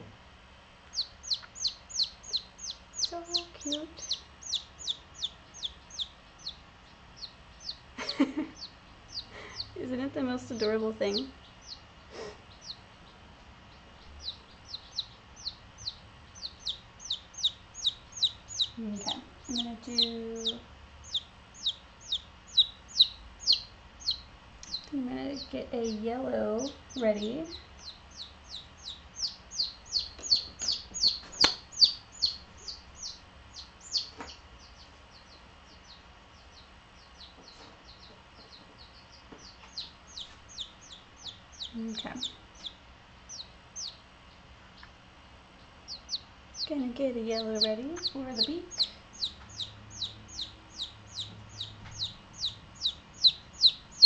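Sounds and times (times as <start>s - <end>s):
chick peeping: 0.8s - 54.0s.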